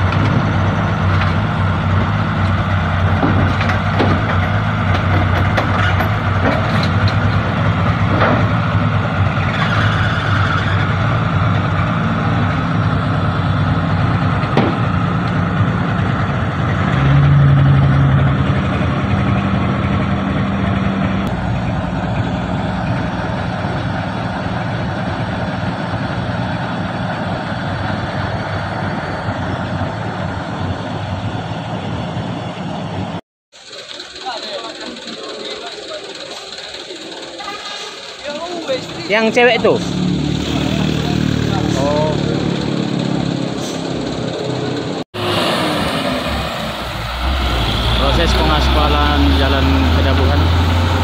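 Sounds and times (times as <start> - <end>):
heavy vehicle engine running: 0.0 - 51.0.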